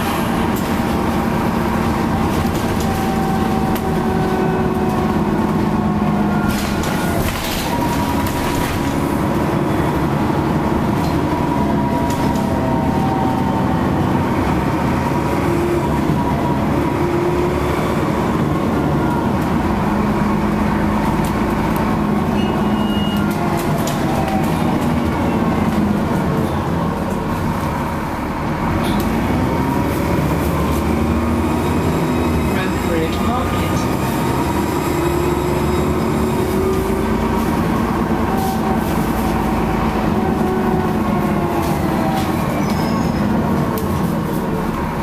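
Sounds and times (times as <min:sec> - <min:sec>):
bus engine drone: 0:00.0 - 0:45.0.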